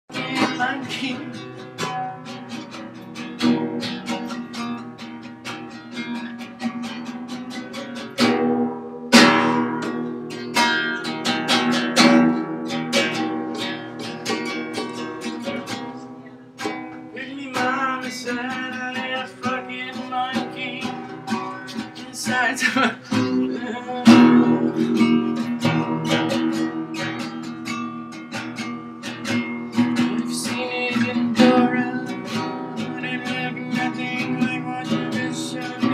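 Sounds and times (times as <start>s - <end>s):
strummed acoustic guitar: 0.1s - 35.9s.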